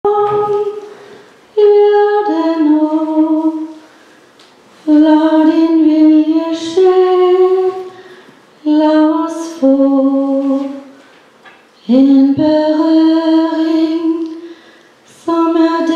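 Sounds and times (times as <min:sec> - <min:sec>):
woman singing unaccompanied: 0:00.0 - 0:03.9, 0:04.8 - 0:08.0, 0:08.6 - 0:11.0, 0:11.8 - 0:14.5, 0:15.1 - 0:15.9.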